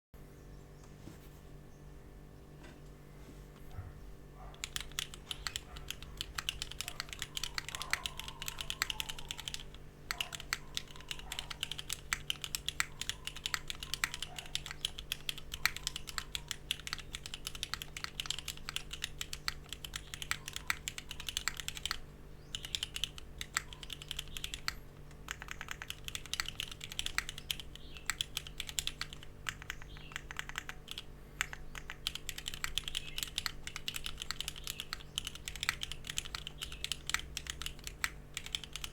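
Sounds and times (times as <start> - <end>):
mechanical keyboard typing: 4.5 - 38.9.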